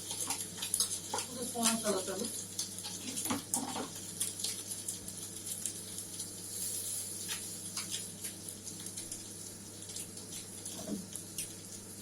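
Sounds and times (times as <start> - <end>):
fish sizzling in oil: 0.0 - 12.0
light crackles and ticks: 0.0 - 12.0.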